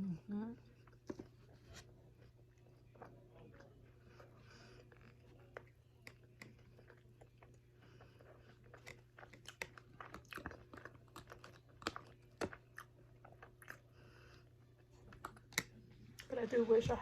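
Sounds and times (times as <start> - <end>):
person chewing wet food: 0.3 - 16.3.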